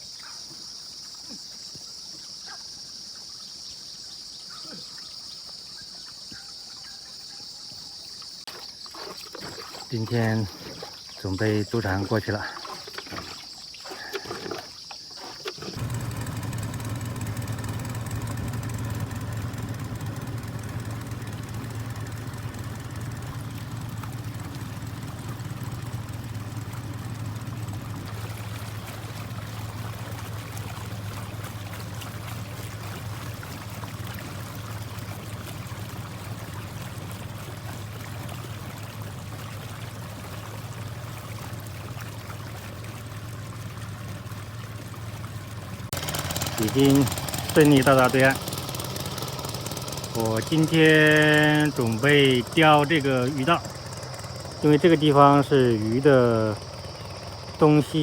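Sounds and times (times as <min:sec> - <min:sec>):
water rushing along hull: 0:08.0 - 0:58.0
boat engine running: 0:08.5 - 0:58.0.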